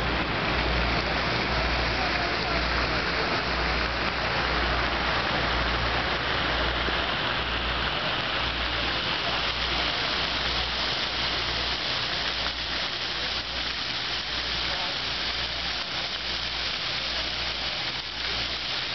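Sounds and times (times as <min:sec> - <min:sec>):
fountain water splashing: 0:00.0 - 0:18.9.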